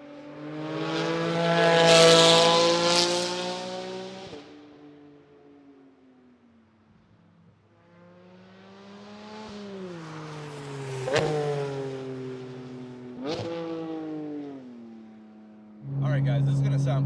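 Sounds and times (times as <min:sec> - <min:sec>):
sports car driving past: 0:00.2 - 0:04.9, 0:07.8 - 0:17.0.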